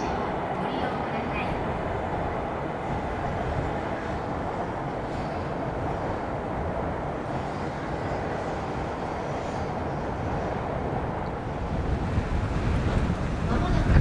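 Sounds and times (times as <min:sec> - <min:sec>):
electric trains rumbling: 0:00.0 - 0:14.0.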